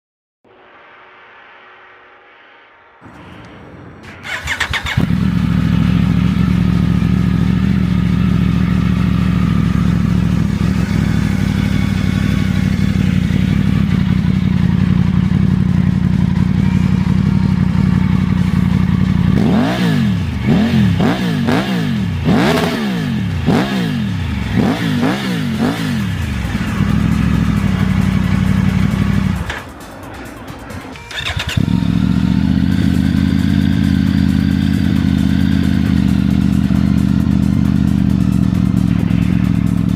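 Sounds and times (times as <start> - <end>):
motorcycle engine idling and revving: 3.0 - 39.9.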